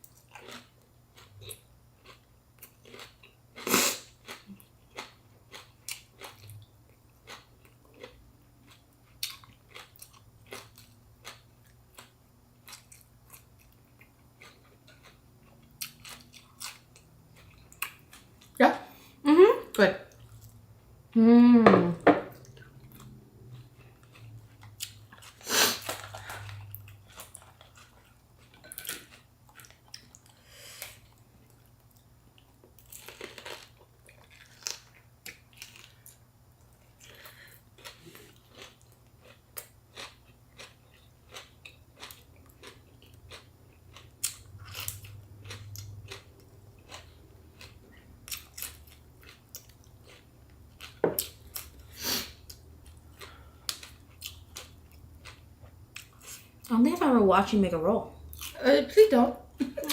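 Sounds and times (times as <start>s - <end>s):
chewing and crunching food: 0.0s - 18.6s, 20.0s - 20.9s, 22.3s - 56.8s.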